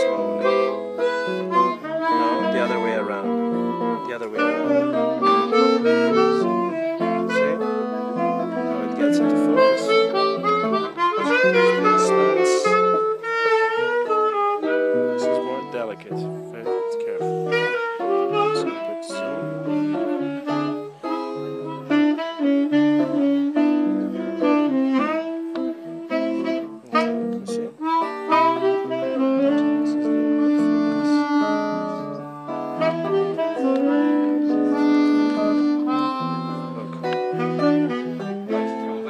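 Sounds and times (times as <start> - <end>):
electric guitar chords: 0.0 - 39.0
harmonica melody: 0.0 - 39.0
tenor saxophone melody: 0.0 - 39.0.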